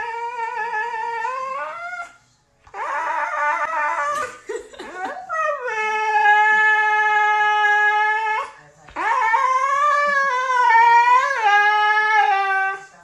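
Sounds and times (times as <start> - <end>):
dog howling: 0.0 - 4.3, 5.0 - 12.9.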